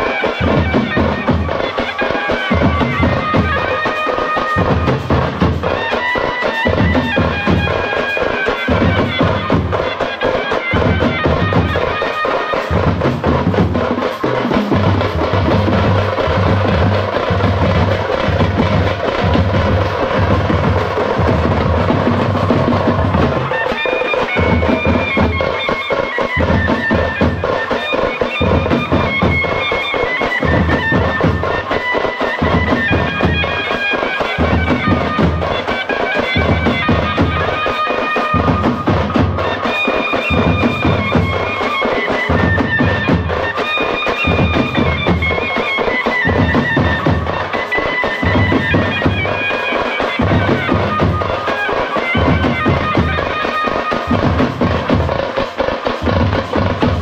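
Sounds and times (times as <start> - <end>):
steady drum beat: 0.0 - 57.0
wind instrument melody: 0.0 - 57.0.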